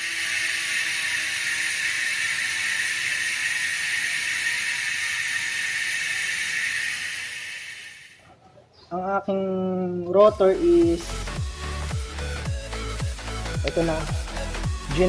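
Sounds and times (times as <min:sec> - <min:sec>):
bike hub freewheel buzzing: 0:00.0 - 0:08.2, 0:11.1 - 0:15.0.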